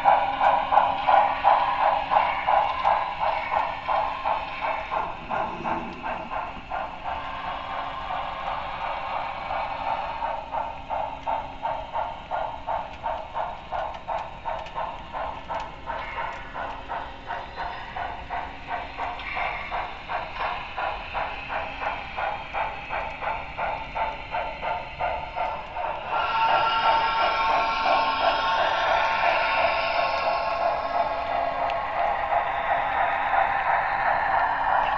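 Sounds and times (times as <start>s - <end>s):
model steam locomotive chuffing: 0.0s - 34.9s.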